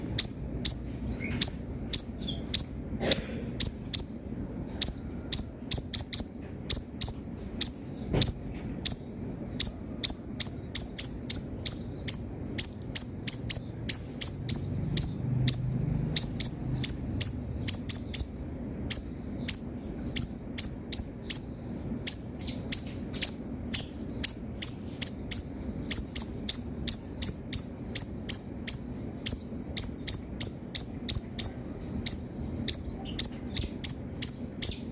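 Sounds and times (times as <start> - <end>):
bird chirping high chips: 0.0 - 34.9
low steady hum: 0.0 - 34.9.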